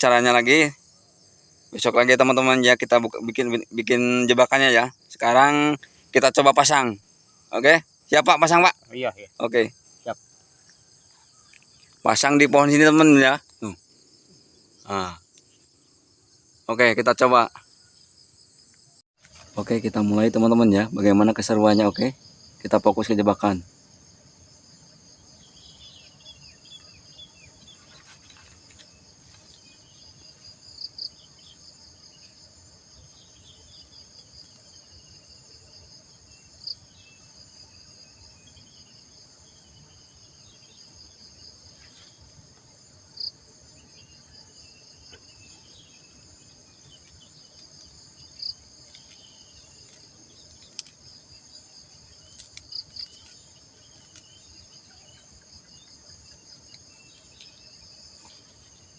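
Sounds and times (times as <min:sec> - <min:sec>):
insects trilling: 0:00.0 - 0:58.9.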